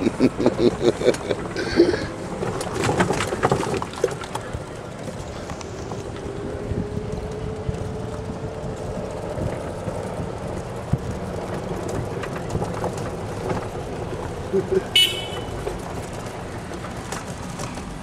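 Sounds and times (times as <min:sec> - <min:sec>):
vehicle motor running: 0:00.0 - 0:18.0.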